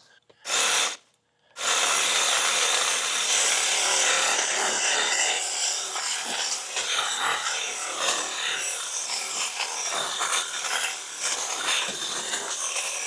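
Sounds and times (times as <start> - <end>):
chainsaw cutting branches: 0.5 - 1.0, 1.6 - 13.0.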